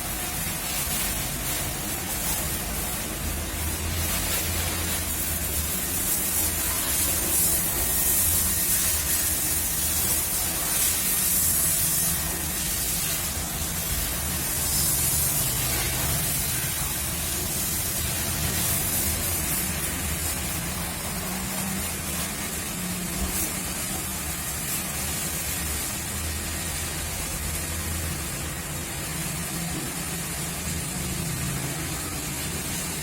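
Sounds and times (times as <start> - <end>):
pressure washer spraying water: 0.0 - 33.0.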